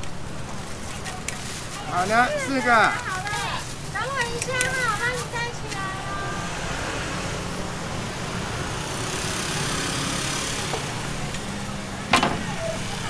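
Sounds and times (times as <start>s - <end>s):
street stall hum and hiss: 0.0s - 13.0s.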